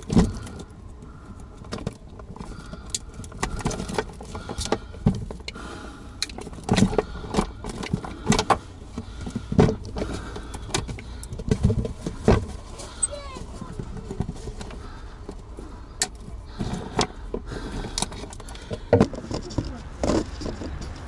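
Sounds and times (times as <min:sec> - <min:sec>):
cables rustling and knocking: 0:00.0 - 0:21.0.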